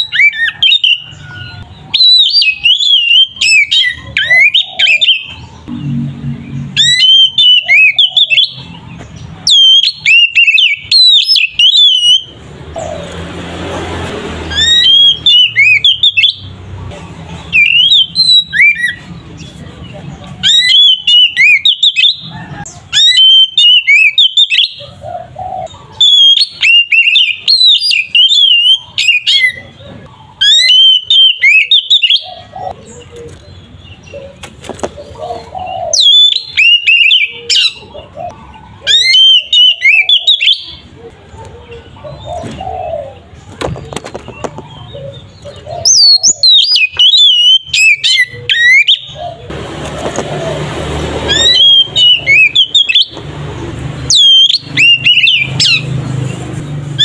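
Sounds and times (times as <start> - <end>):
bird singing warbling phrases: 0.0 - 13.3, 14.4 - 50.5, 51.1 - 57.0.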